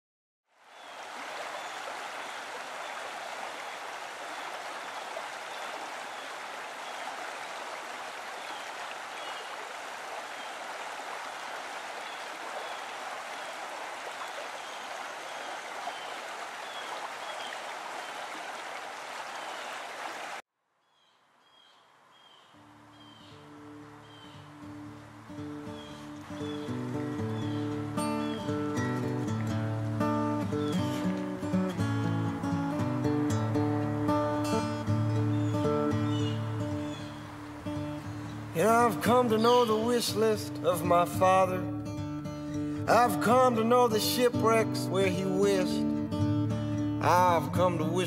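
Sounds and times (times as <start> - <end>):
stream water rushing: 0.5 - 20.4, 22.6 - 44.0.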